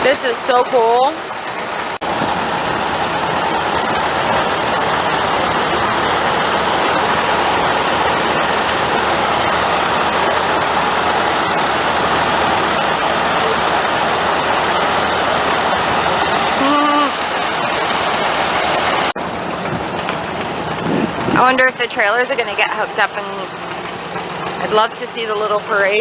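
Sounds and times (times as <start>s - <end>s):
tractor engines running: 0.0s - 26.0s.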